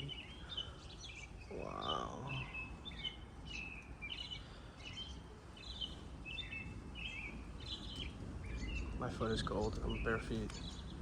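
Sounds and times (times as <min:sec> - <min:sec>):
bird chirping: 0:00.0 - 0:11.0
low outdoor rumble: 0:00.0 - 0:11.0.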